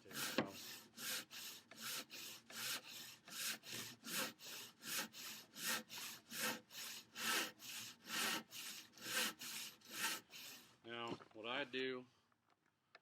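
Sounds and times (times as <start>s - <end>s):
handsaw cutting wood: 0.0s - 10.8s.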